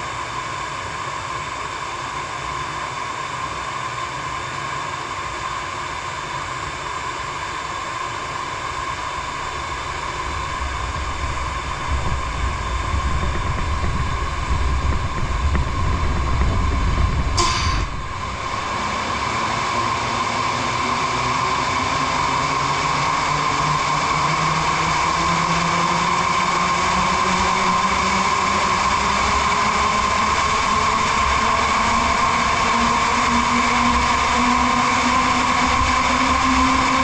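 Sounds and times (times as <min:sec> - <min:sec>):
harvester engine and fan drone: 0:00.0 - 0:37.0.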